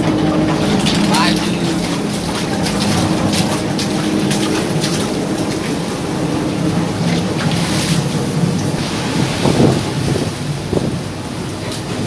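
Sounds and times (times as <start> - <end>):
ship engine humming: 0.0 - 12.0
waves and spray rushing: 0.0 - 12.0.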